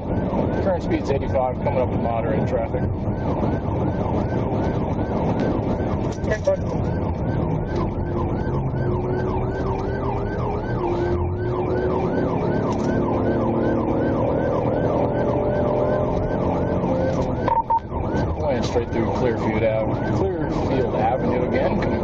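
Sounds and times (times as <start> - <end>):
engine and road noise: 0.0 - 22.0
police siren yelping: 0.0 - 22.0.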